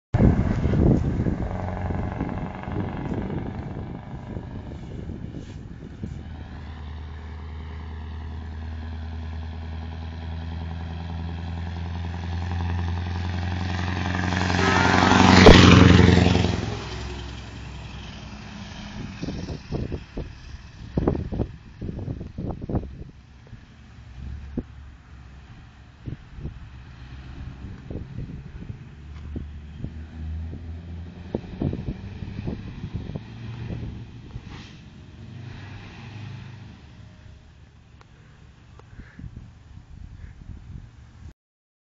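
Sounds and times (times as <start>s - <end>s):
vehicle engine passing by: 0.2s - 39.2s.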